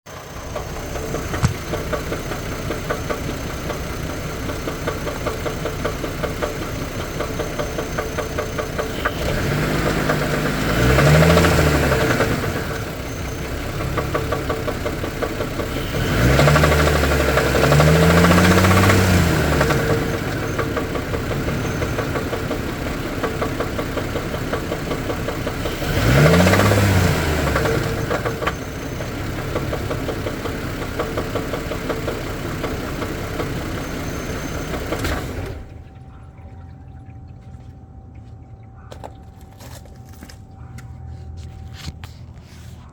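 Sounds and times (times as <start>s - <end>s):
knocking engine idling and revving: 0.0s - 42.9s.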